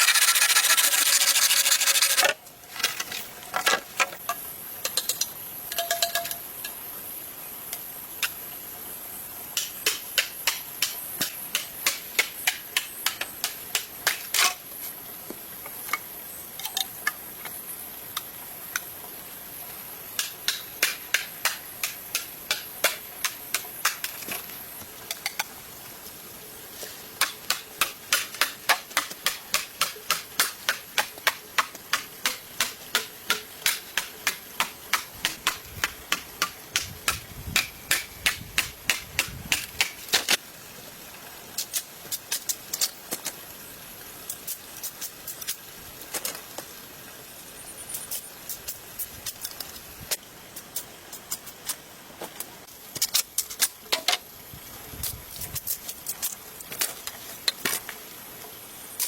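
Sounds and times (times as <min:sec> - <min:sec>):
steady high hiss: 0:00.0 - 0:59.0.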